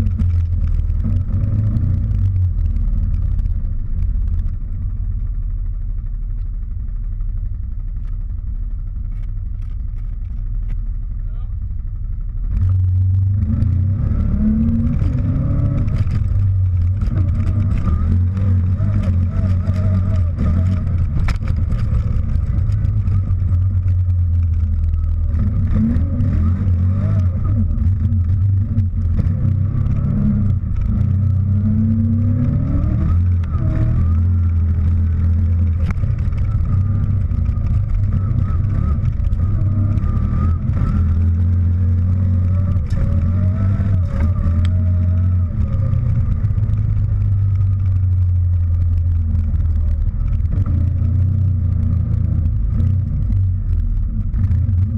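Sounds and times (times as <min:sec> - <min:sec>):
quad bike engine running: 0:00.0 - 0:54.9.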